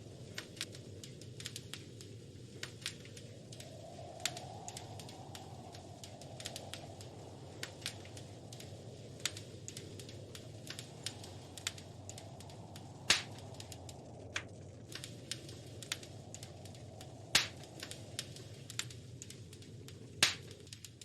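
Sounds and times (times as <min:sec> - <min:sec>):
fire snapping: 0:00.0 - 0:21.0
low rumble of flames: 0:00.0 - 0:21.0
loud fire pops: 0:00.2 - 0:21.0.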